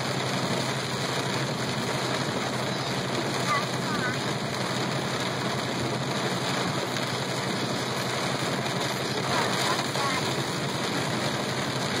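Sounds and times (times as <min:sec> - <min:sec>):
heavy rain and wet road hiss: 0:00.0 - 0:12.0
low engine hum: 0:00.0 - 0:12.0.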